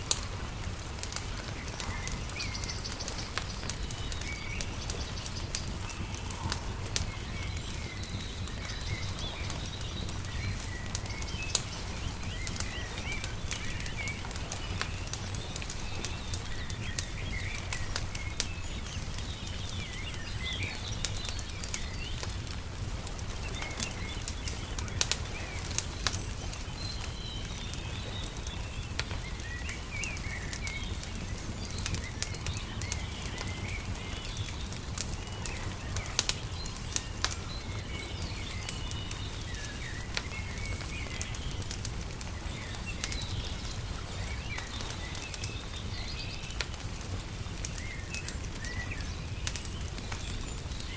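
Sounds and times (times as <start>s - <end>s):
small birds chirping: 0.0s - 50.9s
wood fire crackling: 0.0s - 50.9s.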